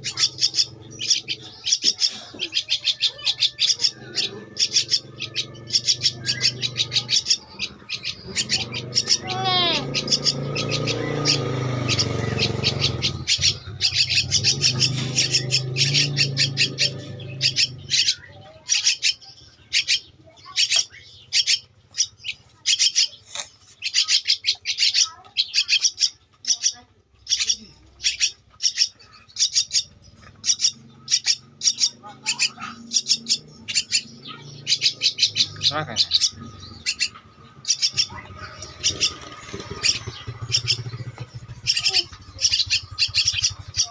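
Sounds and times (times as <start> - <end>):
chick high begging calls: 0.0 - 43.9.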